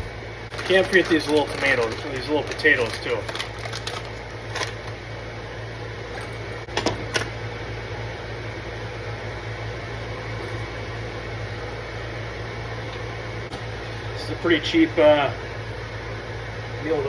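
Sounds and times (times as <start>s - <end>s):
fan-like mechanical hum: 0.0s - 17.0s.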